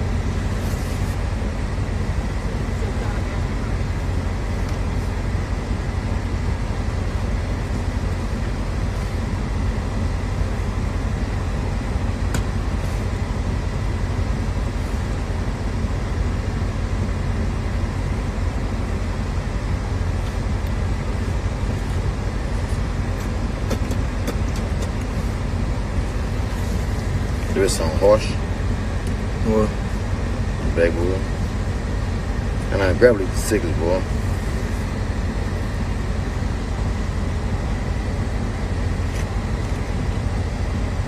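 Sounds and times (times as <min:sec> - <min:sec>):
car road and engine rumble: 0:00.0 - 0:41.0.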